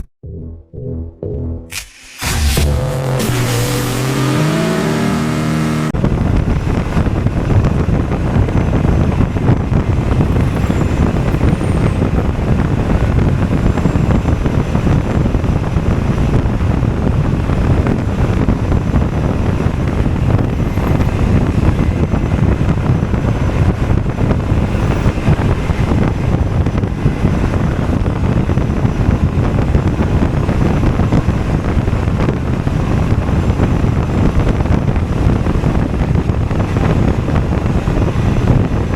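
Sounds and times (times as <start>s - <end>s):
road noise: 1.8s - 38.9s
wind rush over microphone: 2.3s - 38.9s.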